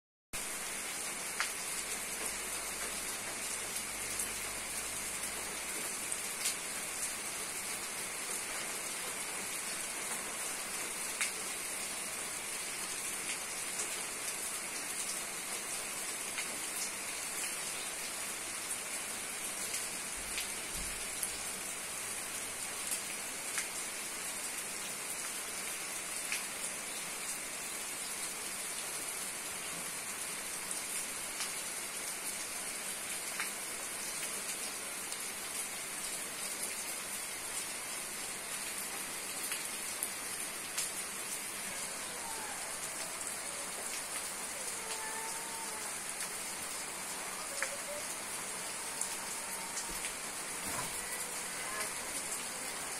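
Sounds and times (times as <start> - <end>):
steady rain hiss: 0.4 - 52.9.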